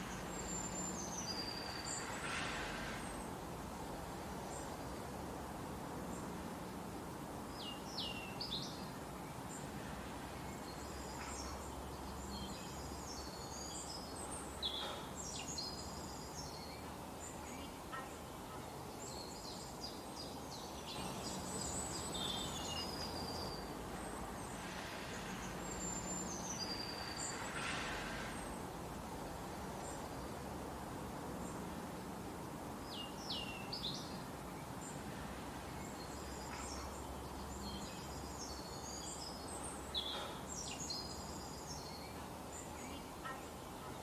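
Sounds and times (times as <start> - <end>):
background hiss: 0.0 - 44.0
songbirds chirping and trilling: 0.0 - 44.0.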